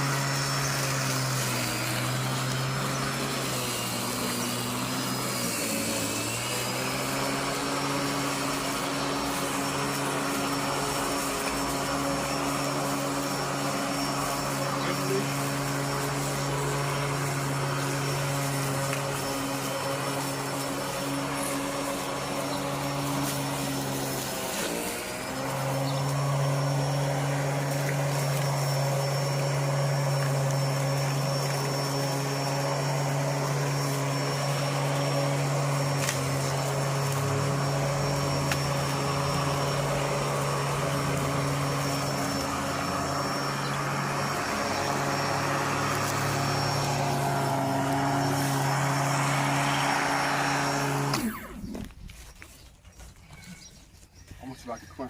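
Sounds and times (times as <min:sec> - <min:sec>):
electric lawnmower motor hum: 0:00.0 - 0:53.0.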